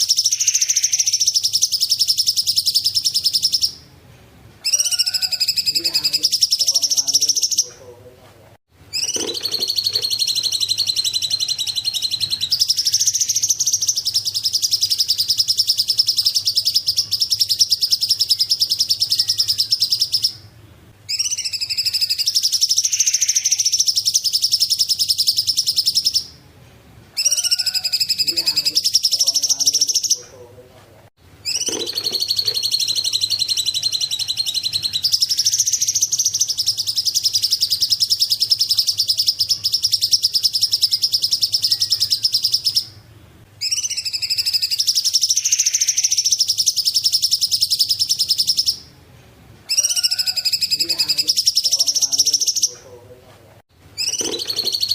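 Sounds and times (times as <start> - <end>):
songbird trilling chatter: 0.0 - 3.8, 4.6 - 7.8, 8.9 - 20.4, 21.1 - 26.3, 27.2 - 30.3, 31.4 - 43.0, 43.6 - 48.9, 49.7 - 52.8, 54.0 - 54.9.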